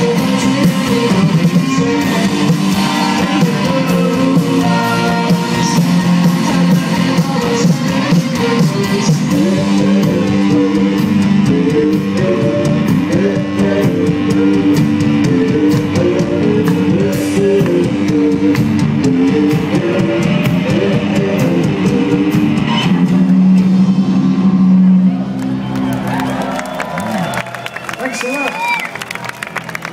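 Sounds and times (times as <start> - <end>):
electric guitars riff: 0.0 - 27.4
bass: 0.0 - 29.9.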